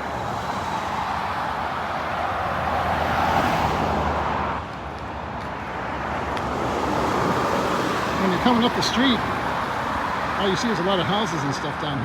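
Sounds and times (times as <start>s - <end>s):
cars passing on street: 0.0s - 12.0s.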